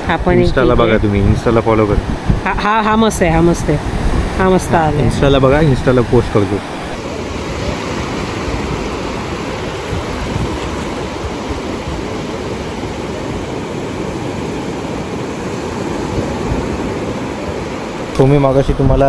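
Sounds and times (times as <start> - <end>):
small waves breaking on sand: 0.6 - 18.5.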